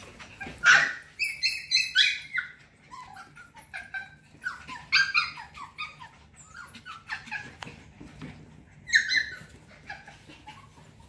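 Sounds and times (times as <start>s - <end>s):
puppies yipping and whimpering: 0.0s - 11.0s.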